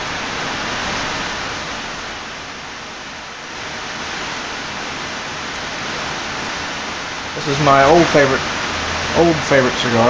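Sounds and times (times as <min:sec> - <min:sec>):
hard driving rain: 0:00.0 - 0:10.0.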